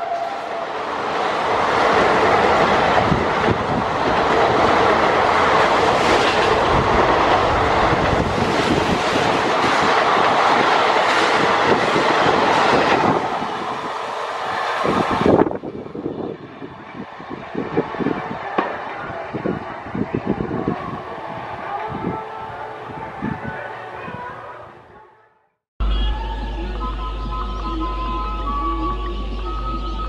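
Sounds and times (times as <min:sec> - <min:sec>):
rush of passing train: 0:00.0 - 0:25.1.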